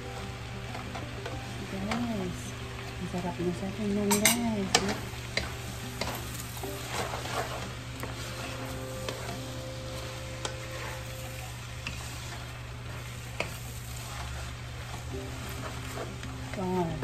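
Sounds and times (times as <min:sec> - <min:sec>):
noodles sizzling in a wok: 0:00.0 - 0:17.0.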